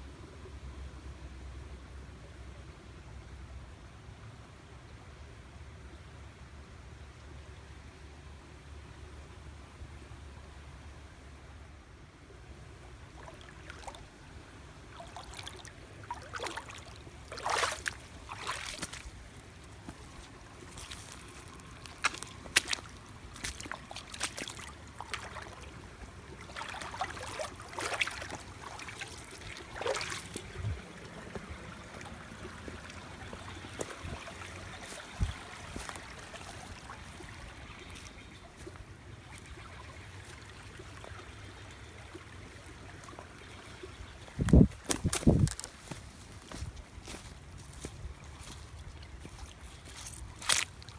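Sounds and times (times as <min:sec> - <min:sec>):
stream trickling: 0:07.2 - 0:50.9.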